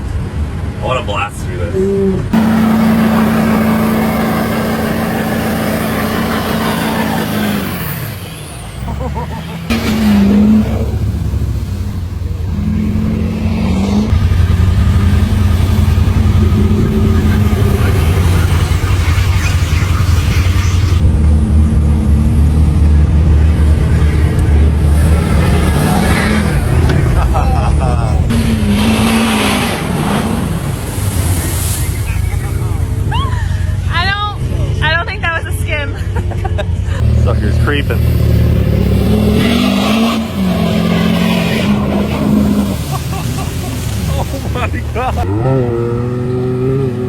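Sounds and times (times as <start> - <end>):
engine droning: 0.0 - 47.0.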